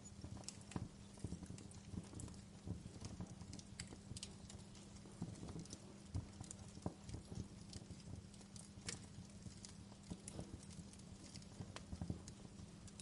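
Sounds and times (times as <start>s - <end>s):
campfire crackling and popping: 0.0s - 13.0s
faint low hum: 0.0s - 13.0s.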